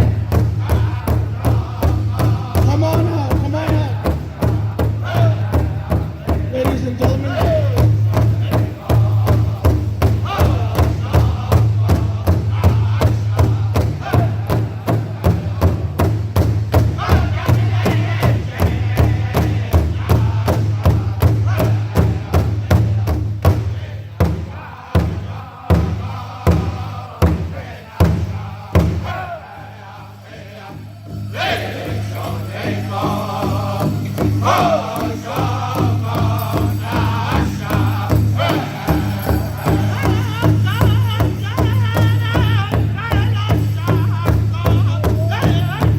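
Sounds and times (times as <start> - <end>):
voices chanting high: 0.0 - 16.0, 16.7 - 45.9
big drum beating: 0.0 - 45.9
group singing in unison: 0.0 - 45.9.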